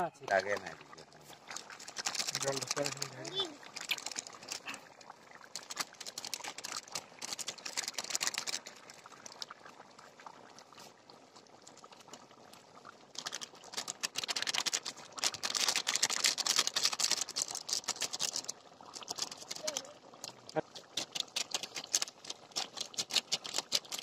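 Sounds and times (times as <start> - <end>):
curry boiling with popping bubbles: 0.0 - 24.0.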